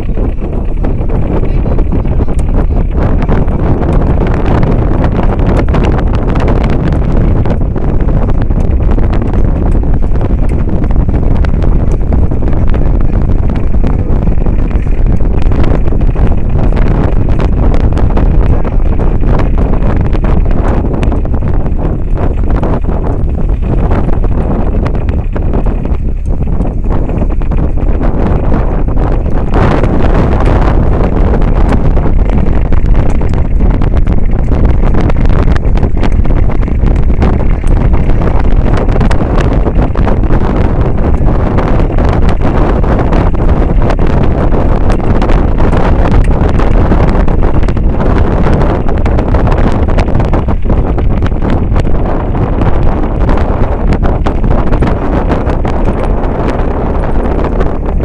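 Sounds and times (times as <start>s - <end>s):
boat engine running: 0.0s - 58.0s
wind noise on microphone: 0.0s - 58.0s.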